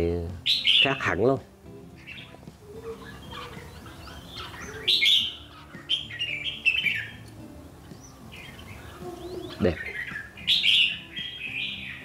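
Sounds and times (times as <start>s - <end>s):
birds chirping and whistling: 0.2s - 12.0s.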